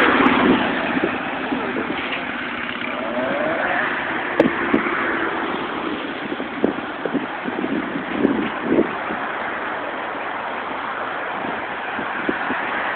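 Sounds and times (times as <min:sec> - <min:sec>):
car traffic passing: 0:00.0 - 0:12.9.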